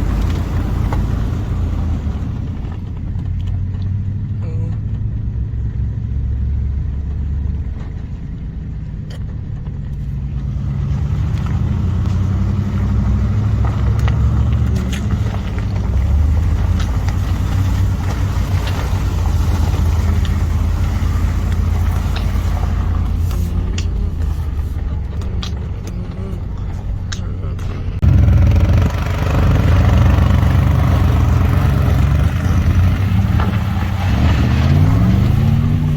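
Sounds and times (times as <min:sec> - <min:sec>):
tyre and rattling road noise: 0:00.0 - 0:35.9
vehicle engine humming: 0:00.0 - 0:35.9.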